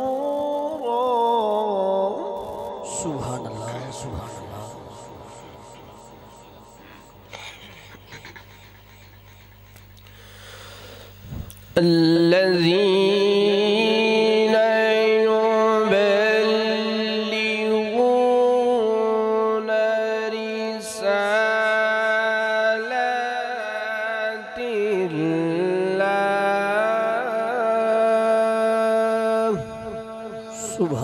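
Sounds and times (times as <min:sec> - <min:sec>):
man reciting melodically: 0:00.0 - 0:08.4, 0:11.5 - 0:31.0.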